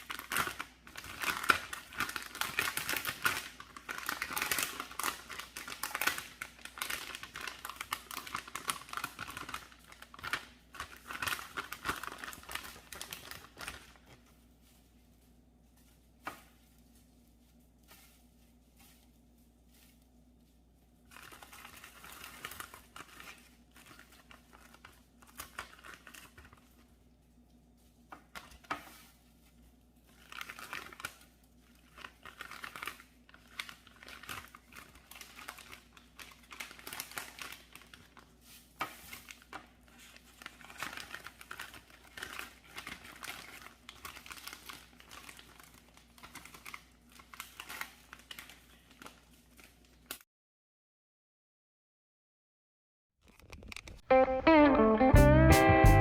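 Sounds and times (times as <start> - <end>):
dry material crinkling and rustling: 0.0 - 50.2.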